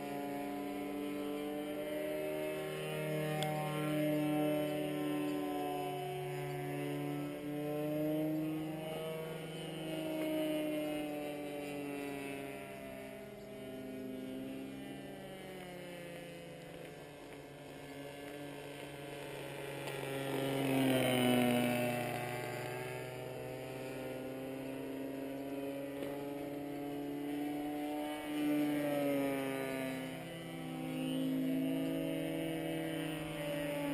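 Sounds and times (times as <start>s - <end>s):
model plane engine flying by: 0.0s - 33.9s.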